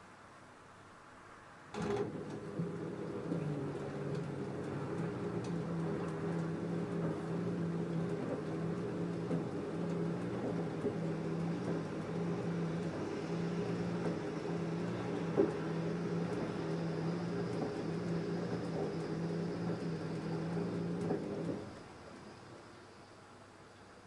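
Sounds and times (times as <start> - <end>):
washing machine motor hum: 1.7 - 24.0.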